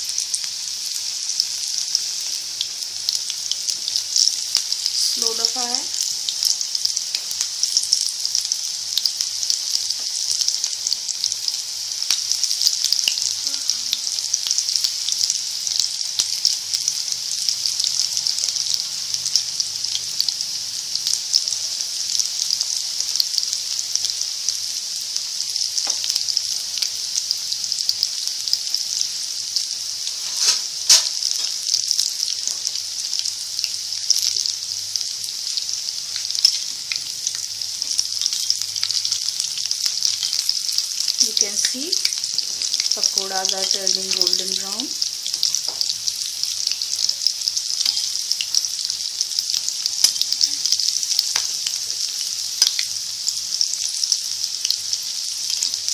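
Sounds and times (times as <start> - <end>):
fritters sizzling in hot oil: 0.0 - 55.9.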